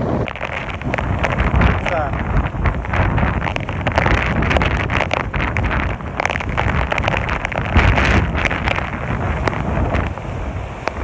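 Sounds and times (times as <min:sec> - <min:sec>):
rain hissing: 0:00.0 - 0:11.0
wind gusts buffeting microphone: 0:00.0 - 0:11.0
raindrops ticking: 0:00.1 - 0:11.0.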